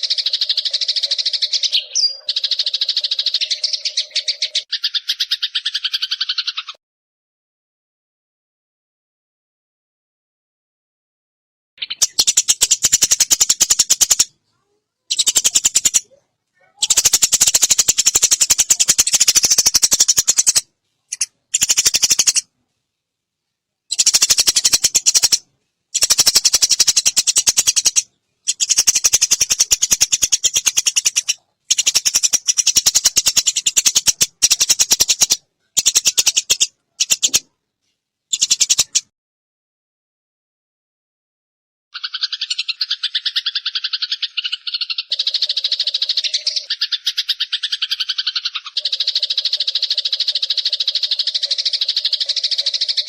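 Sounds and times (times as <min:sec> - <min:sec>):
sparrow rattling chatter: 0:00.0 - 0:06.8, 0:11.8 - 0:22.5, 0:23.9 - 0:37.5, 0:38.3 - 0:39.1, 0:42.0 - 0:53.0.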